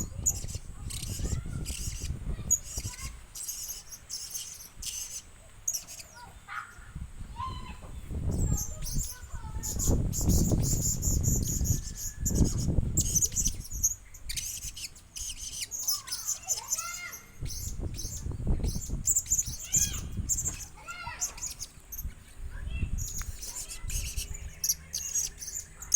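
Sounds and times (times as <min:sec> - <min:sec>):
parrot high-pitched chirps: 0:00.0 - 0:07.7, 0:08.3 - 0:25.9.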